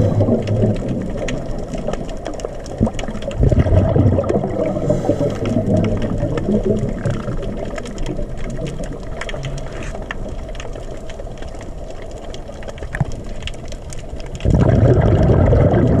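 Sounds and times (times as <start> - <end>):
muffled underwater rumble: 0.0 - 16.0
rush of water: 0.0 - 16.0
sharp clicks and crackles: 0.0 - 16.0.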